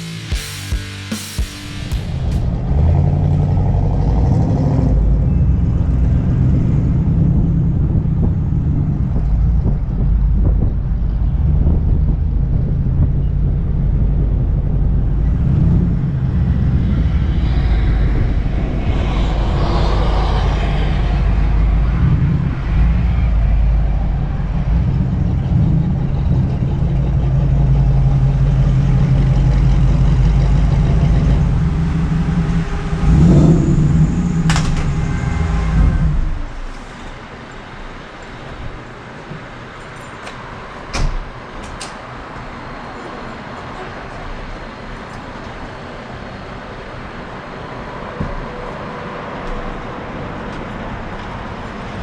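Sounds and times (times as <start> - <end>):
car engine and road rumble: 1.6 - 52.0.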